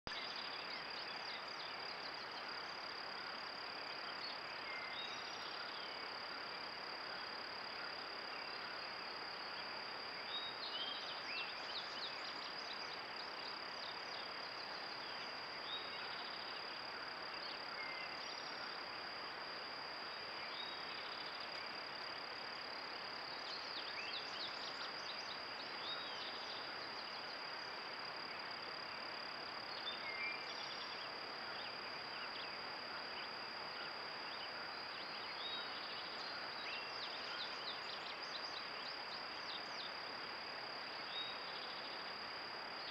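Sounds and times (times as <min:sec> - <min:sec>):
constant hiss: 0:00.1 - 0:42.9
high-pitched insect drone: 0:00.1 - 0:42.9.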